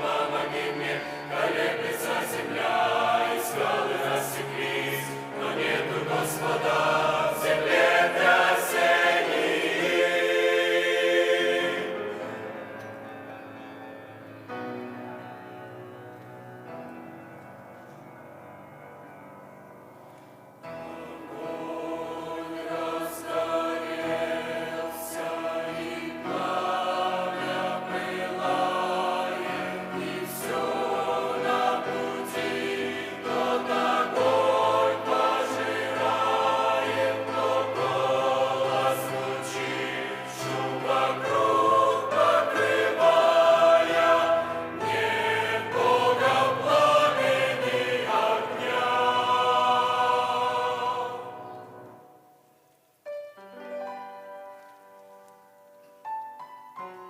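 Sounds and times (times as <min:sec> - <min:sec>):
church choir singing: 0:00.0 - 0:52.6.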